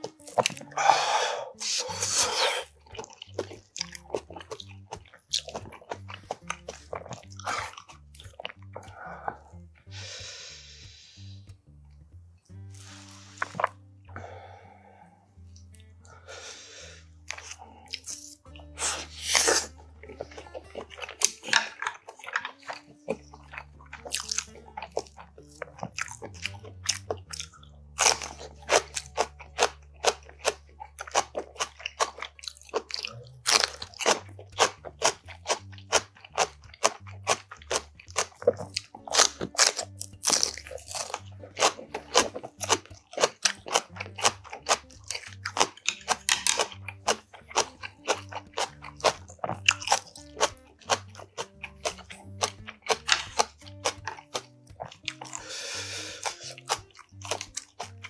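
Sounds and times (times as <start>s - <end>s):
crunching and chewing food: 0.0s - 10.9s, 12.4s - 58.0s
soft background music: 0.0s - 58.0s.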